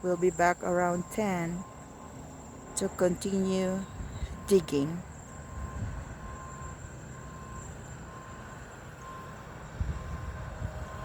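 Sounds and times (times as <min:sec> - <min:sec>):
vehicle reversing alarm beeping: 0:00.0 - 0:11.0.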